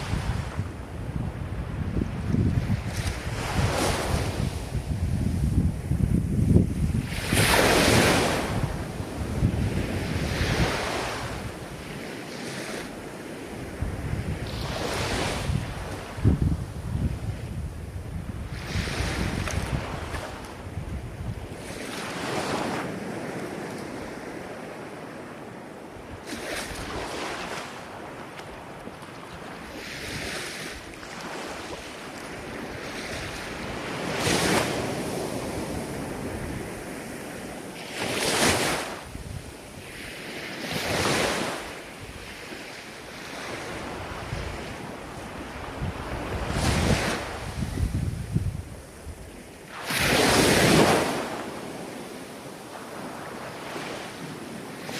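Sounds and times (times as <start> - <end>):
ocean waves breaking: 0.0 - 54.9
wind on microphone: 0.0 - 54.9.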